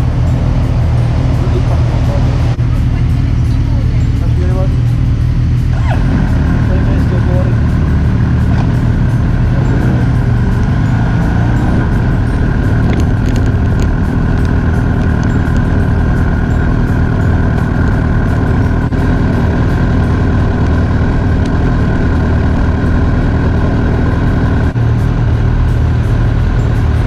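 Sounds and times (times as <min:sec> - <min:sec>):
motorcycle engine running: 0:00.0 - 0:27.0
wind rushing over microphone: 0:00.0 - 0:27.0.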